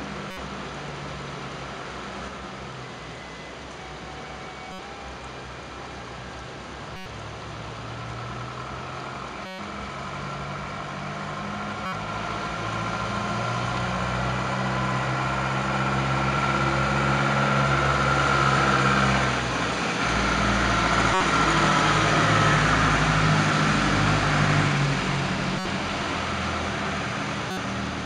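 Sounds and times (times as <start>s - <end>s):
minibus engine running: 0.0s - 28.0s
tyres on wet road: 0.0s - 28.0s.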